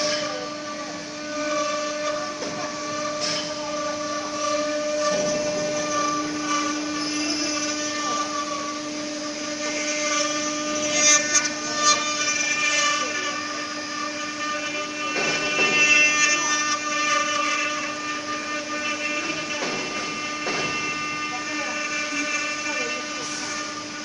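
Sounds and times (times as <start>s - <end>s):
bit rasping through wood: 0.0s - 24.0s
router spindle high whine: 0.0s - 24.0s.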